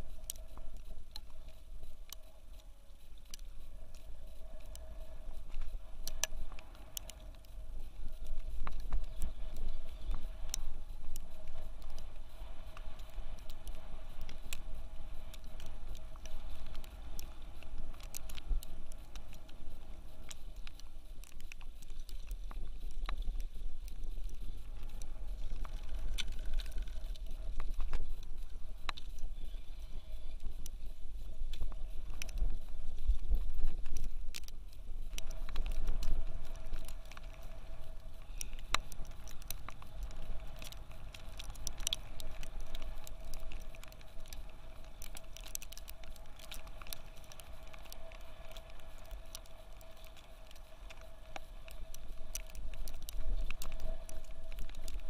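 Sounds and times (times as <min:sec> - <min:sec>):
faint steady hum: 0:00.0 - 0:55.0
wind buffeting microphone: 0:00.0 - 0:55.0
small clicks and taps: 0:00.1 - 0:29.4, 0:30.3 - 0:55.0.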